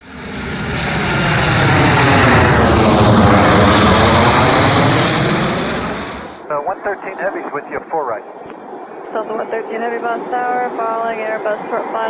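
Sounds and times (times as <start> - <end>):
airliner engine rumble: 0.0 - 12.0
high engine whine: 0.0 - 12.0.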